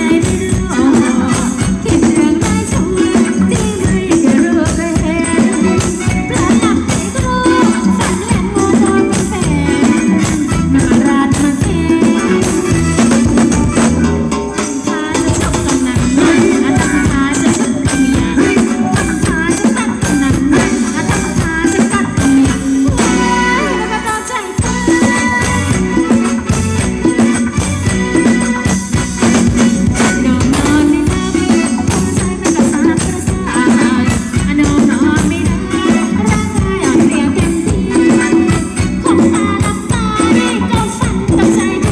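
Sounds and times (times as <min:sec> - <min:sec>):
dance band music: 0:00.0 - 0:41.9
rattling hand percussion: 0:00.0 - 0:41.9.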